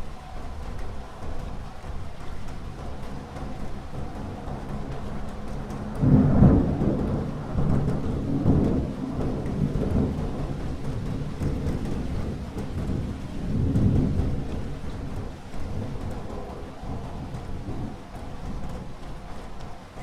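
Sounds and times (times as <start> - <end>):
rain falling: 0.0 - 20.0
thunder rumbling: 0.0 - 20.0.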